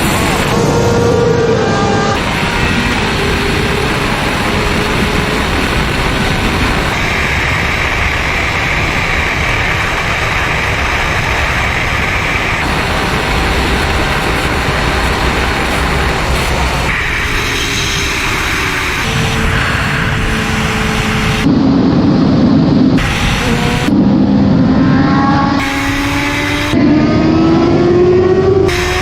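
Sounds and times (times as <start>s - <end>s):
motorcycle engine at high speed: 0.0s - 29.0s.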